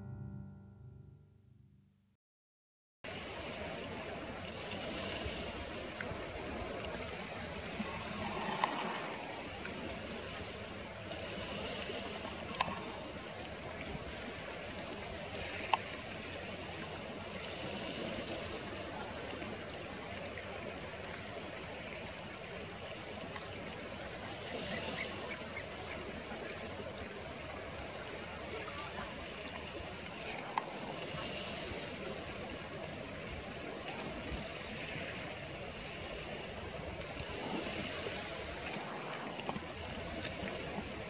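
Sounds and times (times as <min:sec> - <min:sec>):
sea water washing against rocks: 0:03.1 - 0:25.3, 0:27.3 - 0:41.0.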